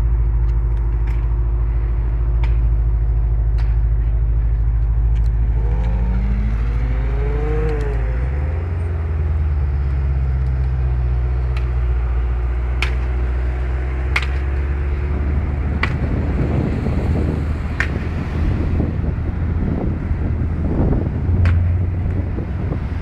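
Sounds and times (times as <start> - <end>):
car engine deep rumble: 0.0 - 23.0
wind buffeting microphone: 0.0 - 23.0.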